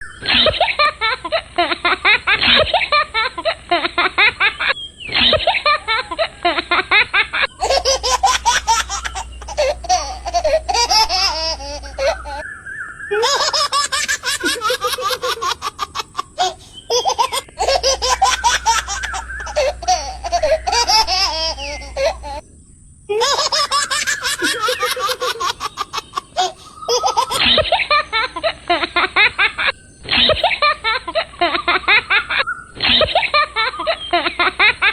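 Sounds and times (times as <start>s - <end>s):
baby laughing: 0.2s - 12.4s, 13.1s - 22.4s, 23.1s - 34.8s.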